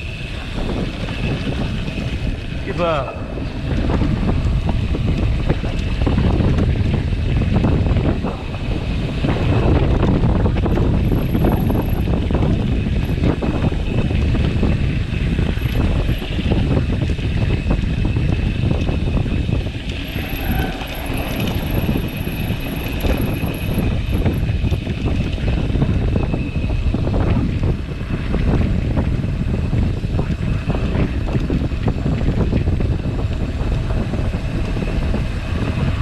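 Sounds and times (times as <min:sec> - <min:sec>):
bike rattling over rough trail: 0:00.0 - 0:36.0
wind buffeting microphone: 0:00.0 - 0:36.0.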